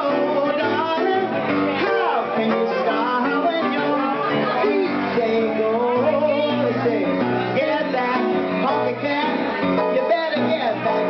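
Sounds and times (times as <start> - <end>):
grand piano: 0.0 - 11.0
woman singing pop song: 0.0 - 11.0.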